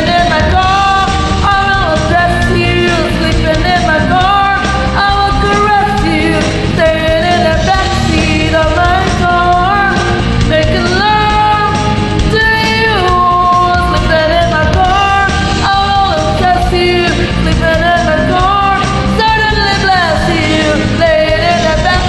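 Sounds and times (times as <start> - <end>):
karaoke band backing track: 0.0 - 22.0
woman singing: 0.0 - 22.0.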